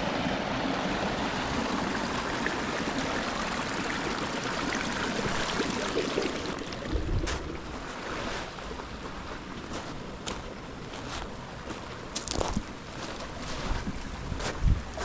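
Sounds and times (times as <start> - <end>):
creek running over rocks: 0.0 - 14.4.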